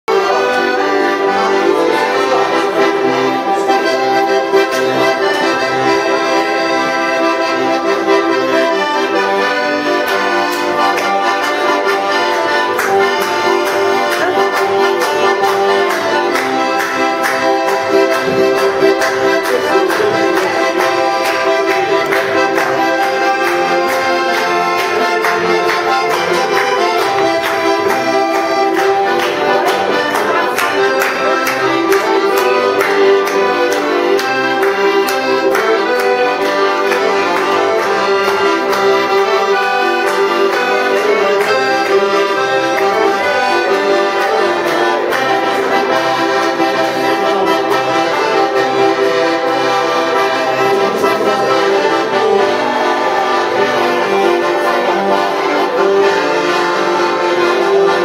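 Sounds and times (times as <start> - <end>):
accordion playing a tune: 0.0 - 58.0.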